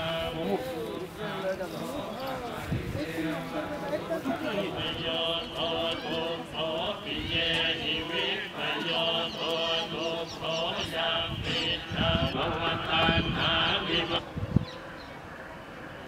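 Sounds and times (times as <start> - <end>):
mantra chanting: 0.0 - 14.2.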